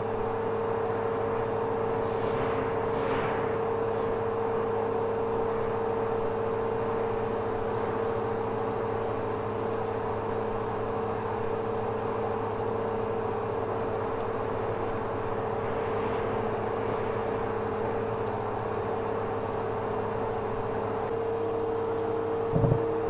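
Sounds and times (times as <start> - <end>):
vacuum cleaner whine: 0.0 - 23.0.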